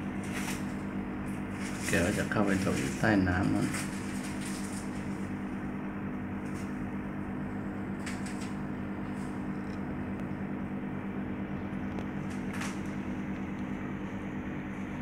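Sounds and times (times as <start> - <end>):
aquarium air pump humming: 0.0 - 15.0.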